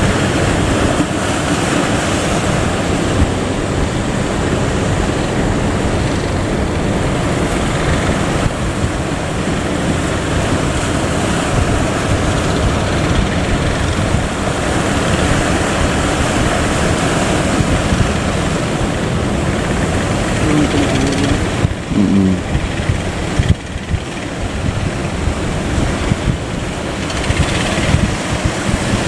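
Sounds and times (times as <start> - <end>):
boat engine running: 0.0 - 29.0
sea waves: 0.0 - 29.0
wind buffeting microphone: 0.0 - 29.0.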